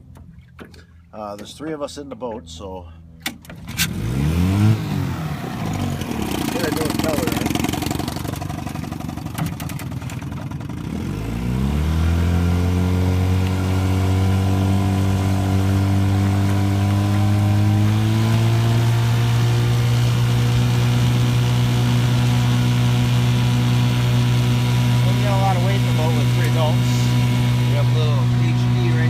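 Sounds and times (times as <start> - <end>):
outboard motor revving: 3.5 - 29.0.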